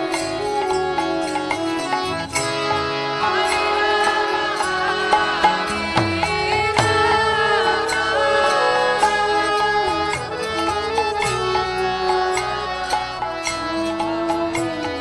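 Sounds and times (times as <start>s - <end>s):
devotional melody: 0.0s - 15.0s.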